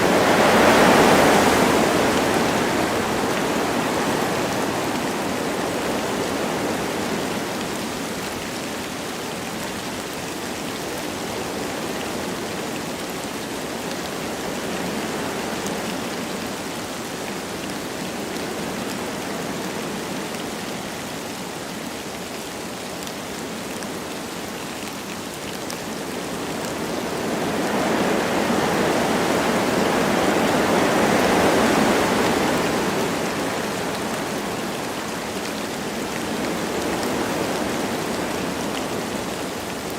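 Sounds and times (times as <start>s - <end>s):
light rain falling: 0.0s - 39.9s
wind blowing through trees: 0.0s - 39.9s.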